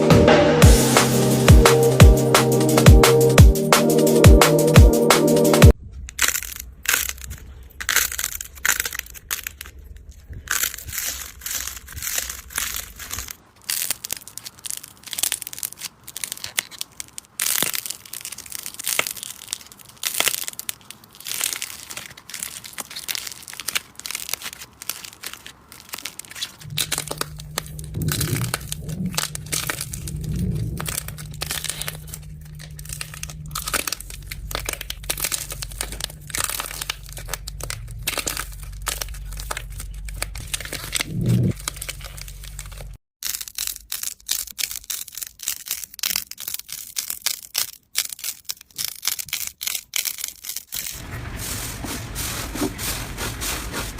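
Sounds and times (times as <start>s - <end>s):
slime crackling and popping: 5.7s - 51.9s.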